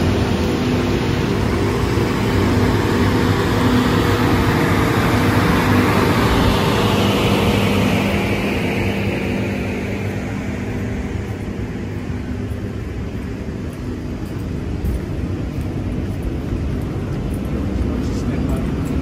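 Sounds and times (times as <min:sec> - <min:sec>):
held low tones: 0:00.0 - 0:19.0
train machine hum: 0:00.0 - 0:19.0.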